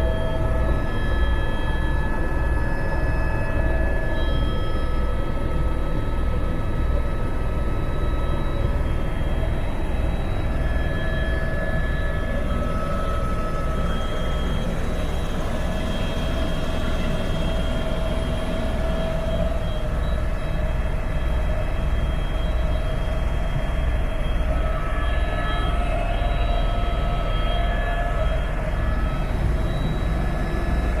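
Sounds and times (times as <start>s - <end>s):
helicopter rotor and engine noise: 0.0s - 31.0s
high whining tones: 0.0s - 31.0s.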